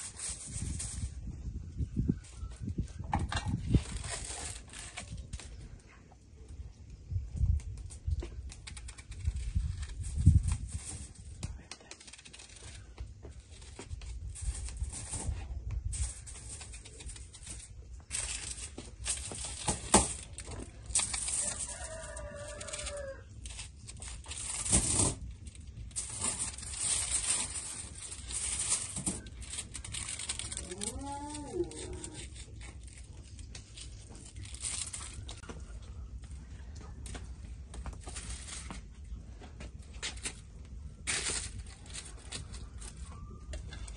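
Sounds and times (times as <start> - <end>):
foil crinkling: 0.0 - 1.2, 3.3 - 5.8, 7.8 - 36.4, 37.0 - 39.1, 41.0 - 43.9.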